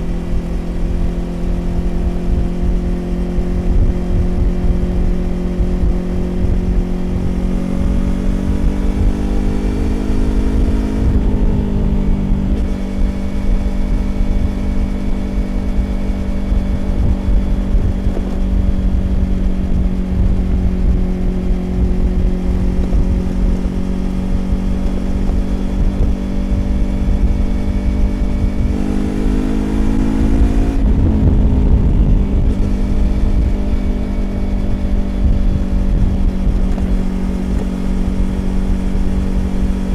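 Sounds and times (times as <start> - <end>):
motorcycle engine revving: 0.0 - 39.9
wind rumbling on microphone: 0.0 - 39.9.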